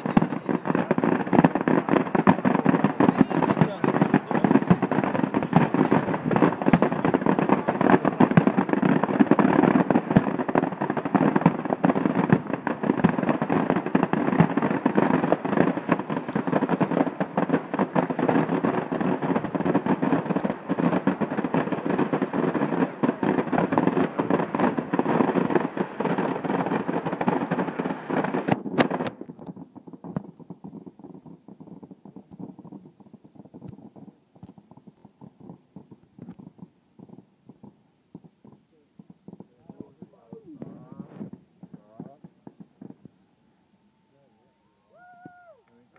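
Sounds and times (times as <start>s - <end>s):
faint scattered pops: 0.0s - 43.2s
distant fireworks bangs and crackling: 0.0s - 45.9s.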